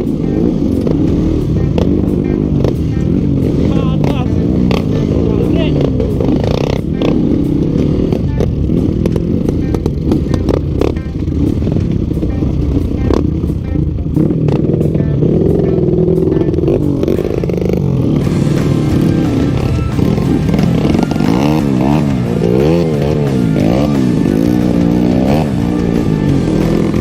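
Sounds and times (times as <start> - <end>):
engine knocks and clatter: 0.0 - 27.0
motorcycle engine revving: 0.0 - 27.0.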